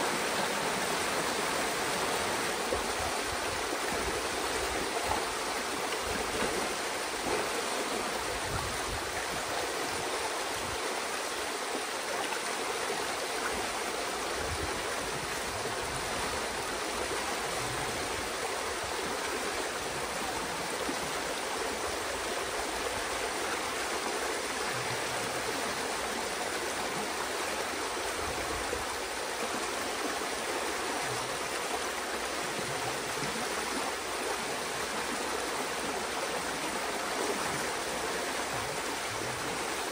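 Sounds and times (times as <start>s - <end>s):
water rushing through a dam: 0.0s - 39.9s.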